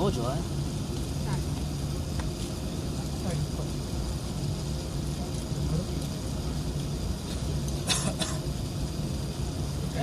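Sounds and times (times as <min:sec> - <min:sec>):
murmur of passengers' voices: 0:00.0 - 0:10.0.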